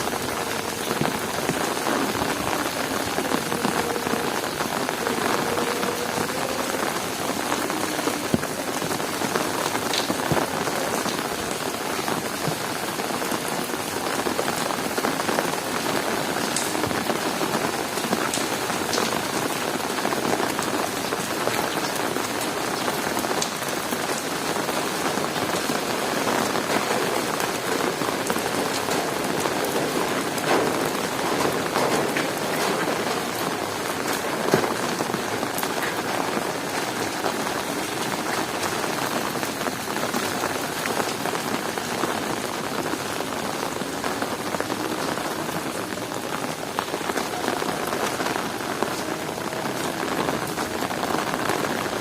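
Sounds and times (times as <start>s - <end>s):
heavy rain on hard surfaces: 0.0s - 52.0s.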